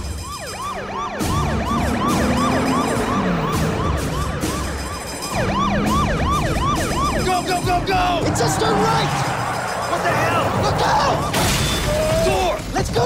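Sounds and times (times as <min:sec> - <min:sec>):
police siren yelping: 0:00.0 - 0:12.6.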